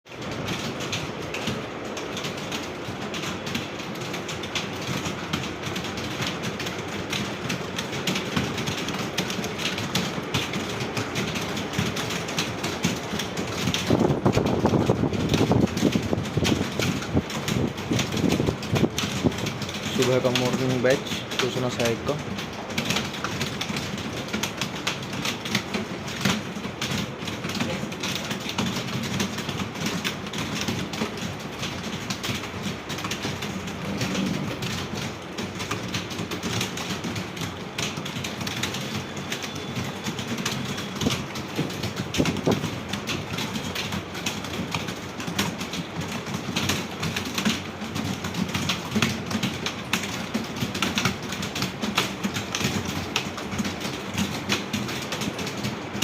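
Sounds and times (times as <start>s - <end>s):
many keyboards clattering: 0.1s - 56.0s.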